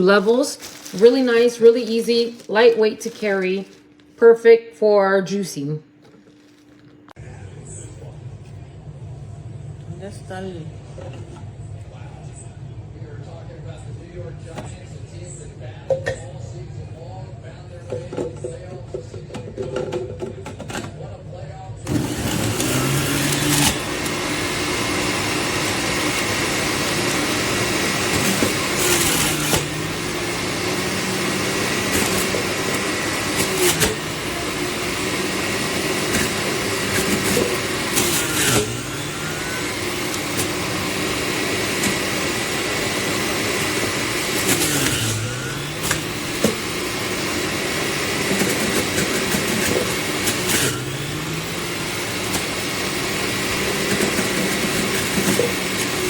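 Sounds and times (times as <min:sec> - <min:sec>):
juicer motor running: 0:00.0 - 0:04.2, 0:05.9 - 0:07.5, 0:09.1 - 0:12.1, 0:17.0 - 0:56.0.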